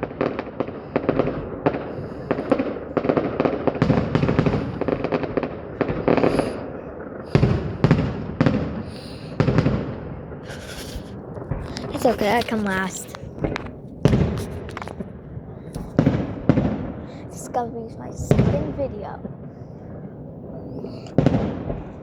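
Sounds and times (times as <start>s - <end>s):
fireworks bangs and booms: 0.0s - 22.0s
fireworks crackling: 0.0s - 22.0s.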